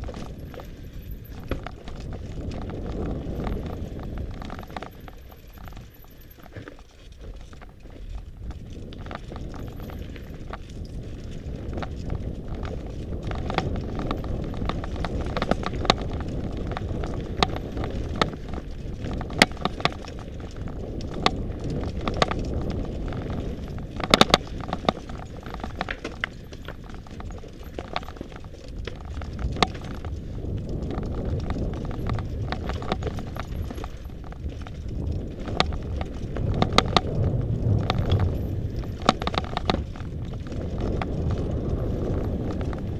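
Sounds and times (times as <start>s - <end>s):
bike clicks and rattles on stones: 0.0s - 42.9s
bike tyres rumbling on trail: 0.0s - 42.9s.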